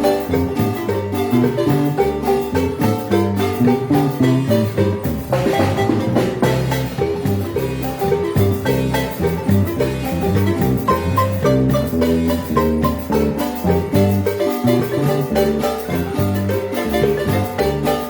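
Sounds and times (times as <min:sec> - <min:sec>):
low bass line: 0:00.0 - 0:18.0
marimba band playing: 0:00.0 - 0:18.0.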